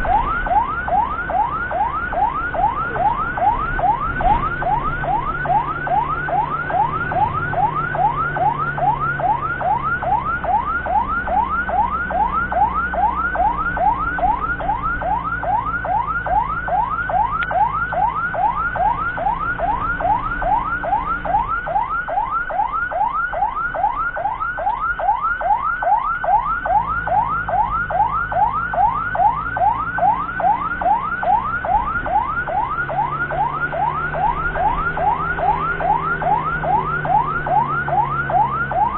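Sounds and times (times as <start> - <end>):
ambulance siren yelping: 0.0 - 38.9
low engine hum: 0.0 - 38.9.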